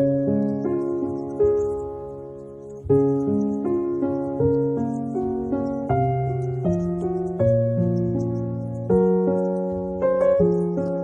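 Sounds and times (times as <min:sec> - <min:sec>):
bird chirps: 0:00.0 - 0:11.0
slow piano music: 0:00.0 - 0:11.0.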